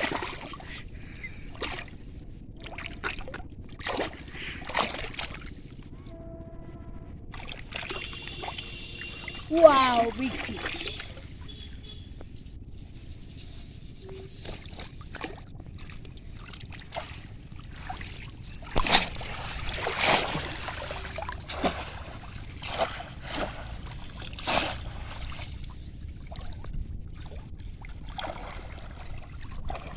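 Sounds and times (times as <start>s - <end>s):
shallow water splashing: 0.0s - 6.0s, 7.2s - 12.2s, 12.8s - 29.9s
low rumble: 0.0s - 29.9s.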